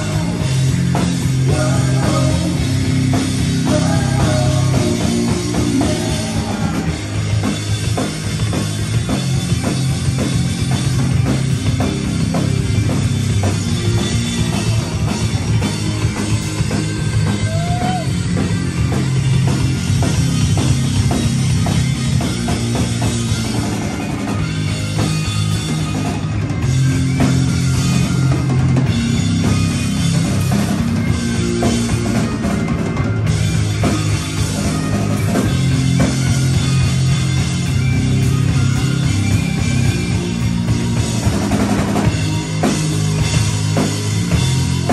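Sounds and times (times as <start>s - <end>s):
bass guitar: 0.0s - 44.9s
drum kit steady beat: 0.0s - 44.9s
electric guitar: 0.0s - 44.9s.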